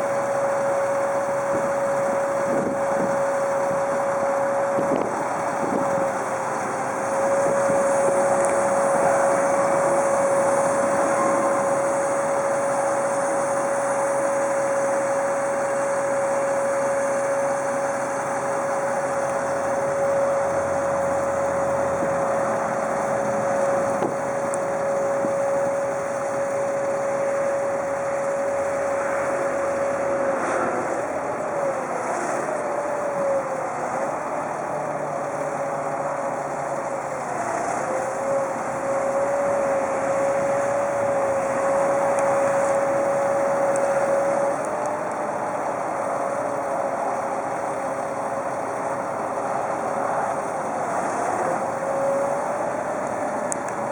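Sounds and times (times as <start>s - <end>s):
high steady whine: 0.0s - 53.9s
truck engine running: 0.0s - 53.9s.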